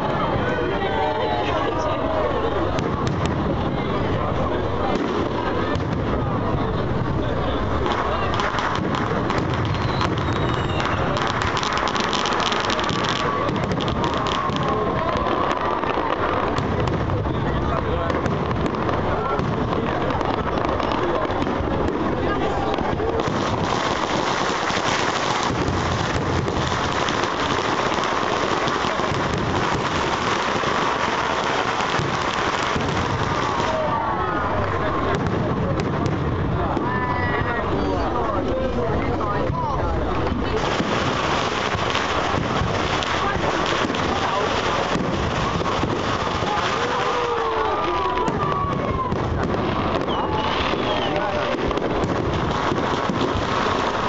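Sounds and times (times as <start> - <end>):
fireworks crackling and popping: 0.0 - 54.0.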